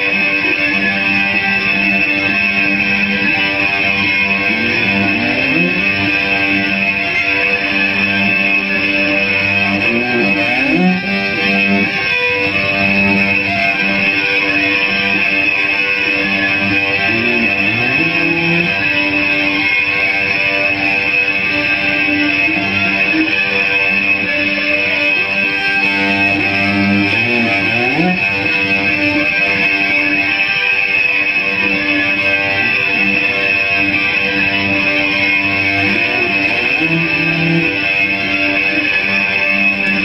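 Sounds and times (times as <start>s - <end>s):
distorted cello droning: 0.0s - 40.0s
high feedback ring: 0.0s - 40.0s.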